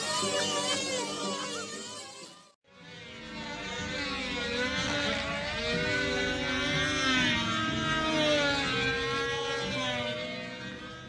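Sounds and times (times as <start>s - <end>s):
model aircraft engines whining: 0.0s - 11.0s.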